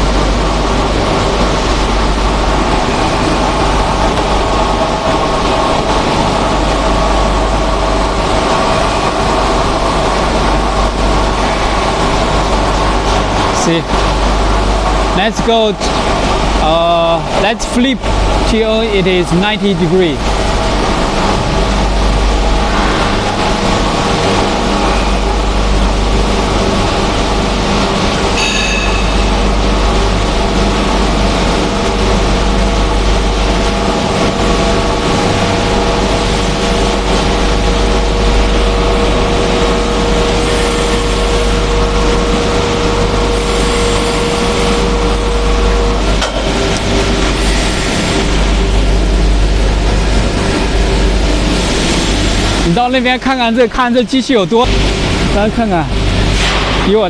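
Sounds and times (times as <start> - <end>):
electric drive whine: 0.0 - 57.0
low machinery hum: 0.0 - 57.0.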